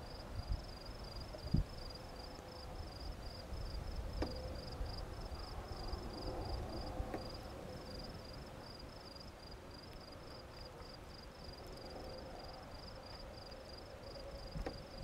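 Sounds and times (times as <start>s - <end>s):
insect chirping: 0.0s - 15.0s
low rumbling background noise: 0.0s - 15.0s.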